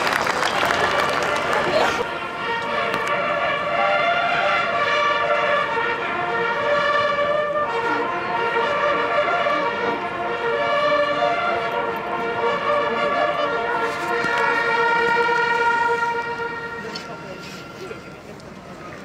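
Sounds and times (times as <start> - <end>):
hunting horns playing chords: 0.4 - 18.2.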